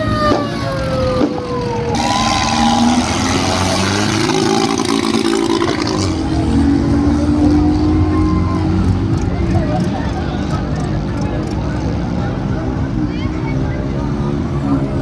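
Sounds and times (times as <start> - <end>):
tractor engine revving: 0.0 - 15.0.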